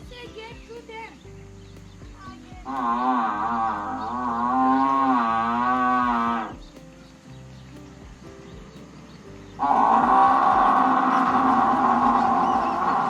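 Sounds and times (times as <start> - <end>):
quiet background music: 0.0 - 13.0.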